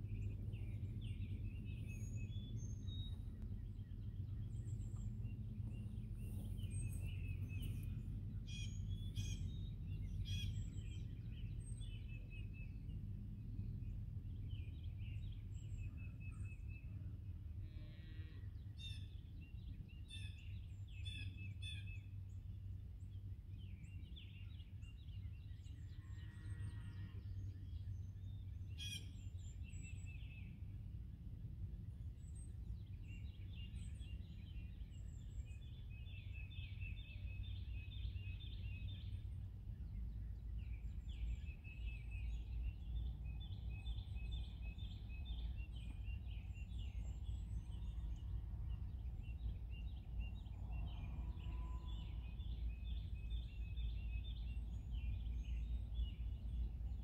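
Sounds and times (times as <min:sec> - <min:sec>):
steady low hum: 0:00.0 - 0:20.8, 0:22.0 - 0:57.0
songbirds chirping and trilling: 0:00.0 - 0:57.0.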